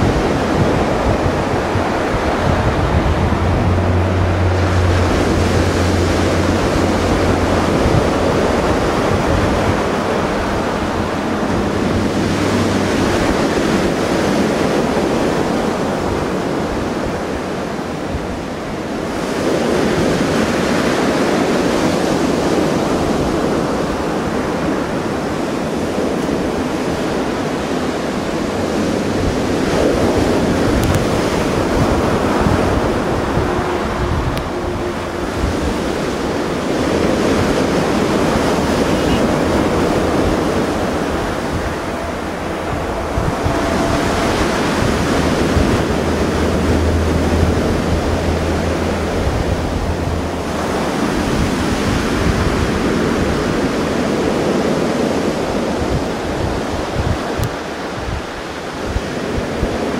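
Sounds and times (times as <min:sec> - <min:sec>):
sea waves washing onto shore: 0:00.0 - 0:59.9
wind buffeting microphone: 0:00.0 - 0:59.9.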